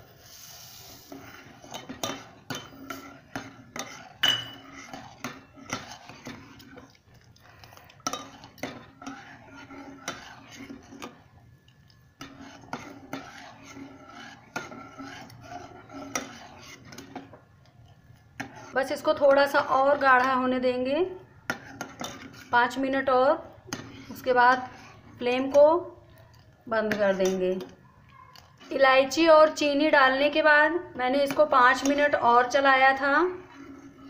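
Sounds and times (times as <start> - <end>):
steel ladle scraping pot: 0.0 - 27.8, 28.4 - 34.0.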